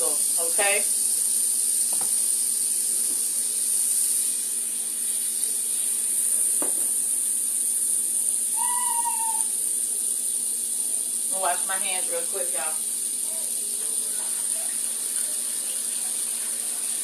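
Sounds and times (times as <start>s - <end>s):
butter and oil sizzling in skillet: 0.0s - 17.0s.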